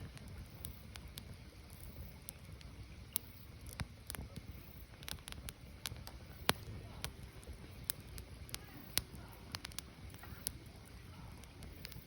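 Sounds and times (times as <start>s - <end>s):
firewood crackling and popping: 0.0s - 12.0s
low rumble of flame: 0.0s - 12.0s.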